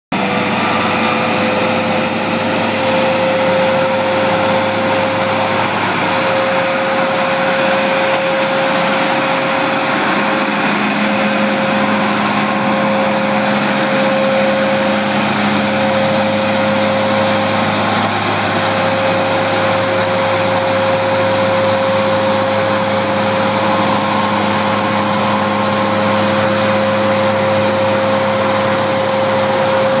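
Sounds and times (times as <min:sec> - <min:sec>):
vacuum street sweeper whine: 0:00.2 - 0:30.0.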